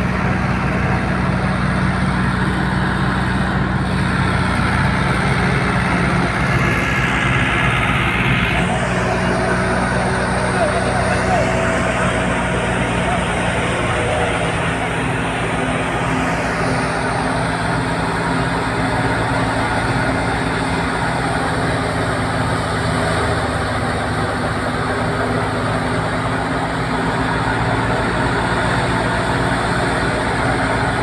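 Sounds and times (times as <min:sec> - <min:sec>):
diesel tractor engine running: 0:00.0 - 0:31.0
thresher running loudly: 0:00.0 - 0:31.0.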